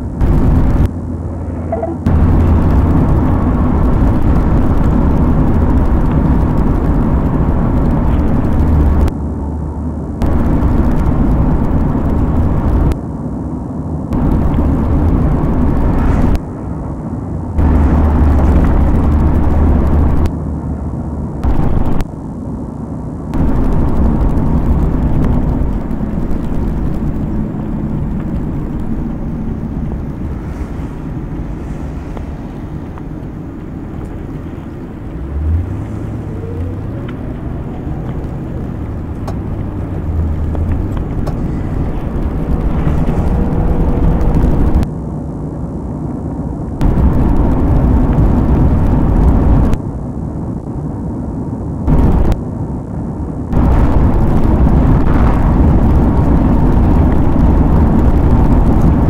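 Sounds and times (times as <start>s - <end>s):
vehicle rumbling: 0.0s - 59.0s.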